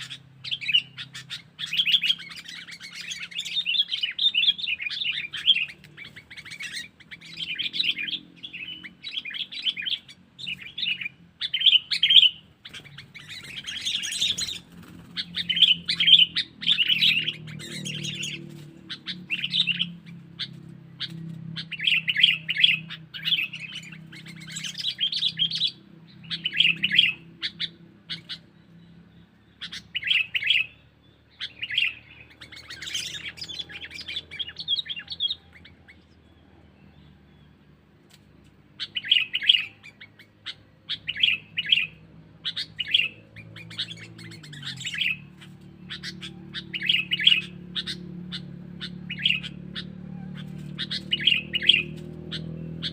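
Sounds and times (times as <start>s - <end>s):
bird chattering calls: 0.0s - 37.0s, 38.7s - 52.9s.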